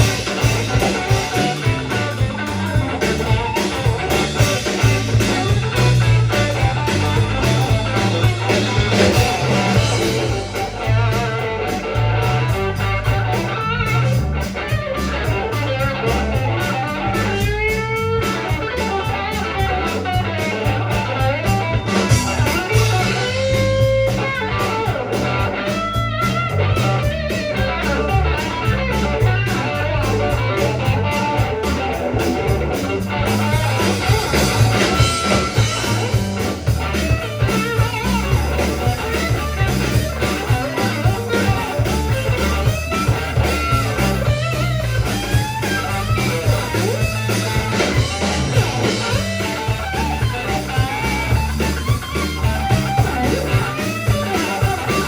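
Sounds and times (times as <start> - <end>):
bass guitar: 0.0 - 55.0
drum kit: 0.0 - 55.0
lead electric guitar: 0.0 - 55.0.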